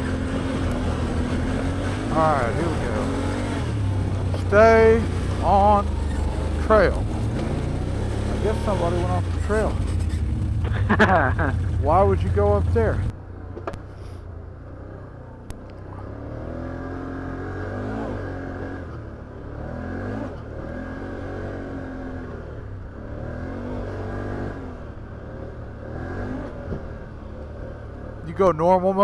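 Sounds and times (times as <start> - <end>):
atv engine revving: 0.0 - 29.0.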